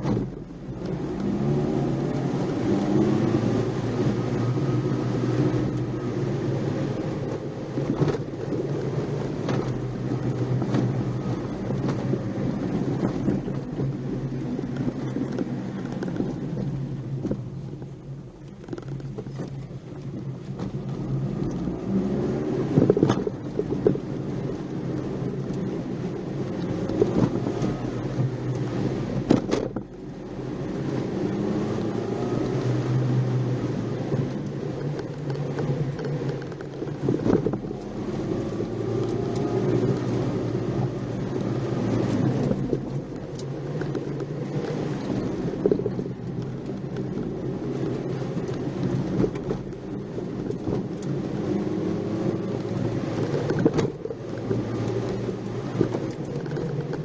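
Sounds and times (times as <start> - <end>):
car engine revving: 0.0 - 57.0
tyre and road rumble: 0.0 - 57.0.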